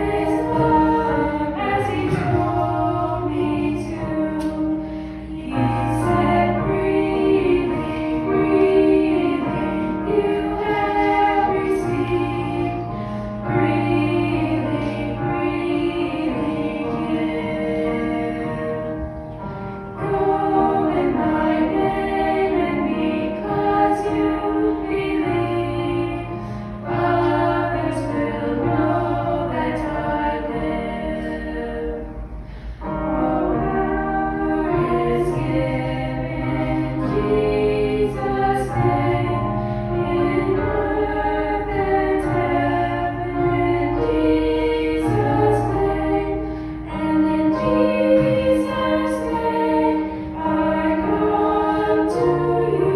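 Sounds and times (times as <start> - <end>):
slow worship music: 0.0 - 52.9.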